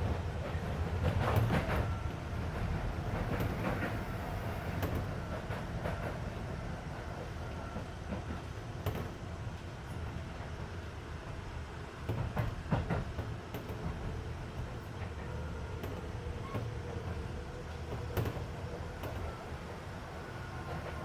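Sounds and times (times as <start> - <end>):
air conditioning noise: 0.0 - 21.0
rail joint clicks: 0.0 - 21.0
train wheels rumbling on rail: 0.0 - 21.0.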